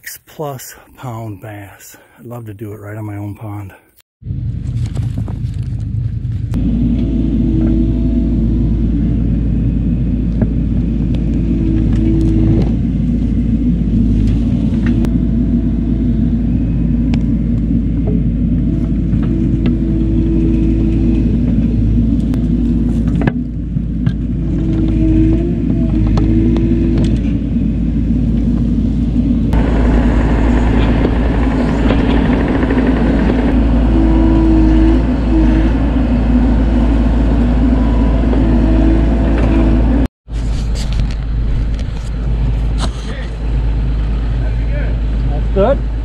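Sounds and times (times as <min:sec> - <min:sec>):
excavator engine and hydraulics: 0:05.8 - 0:46.0.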